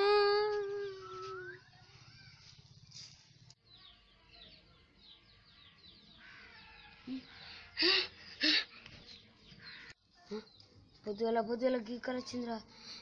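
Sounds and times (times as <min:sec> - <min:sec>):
birds chirping: 0:00.2 - 0:13.0.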